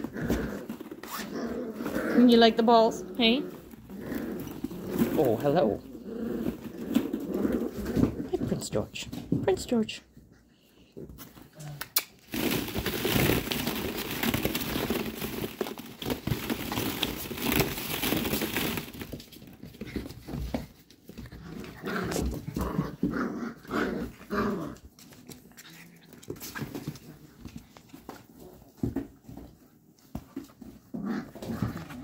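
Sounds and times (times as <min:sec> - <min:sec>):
puppies scuffling on wooden floor: 0:00.0 - 0:10.3, 0:12.3 - 0:32.0.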